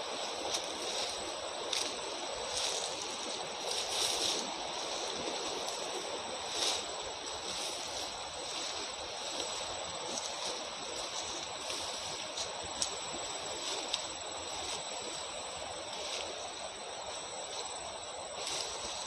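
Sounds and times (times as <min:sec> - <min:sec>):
rustling of tall grass: 0:00.0 - 0:19.0
swishes of stems and leaves: 0:00.1 - 0:19.0.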